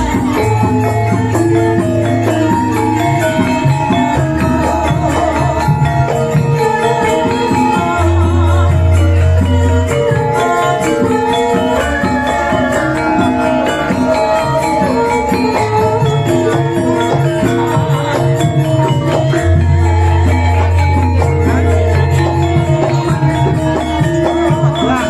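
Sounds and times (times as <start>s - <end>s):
gamelan music over loudspeakers: 0.0s - 25.0s.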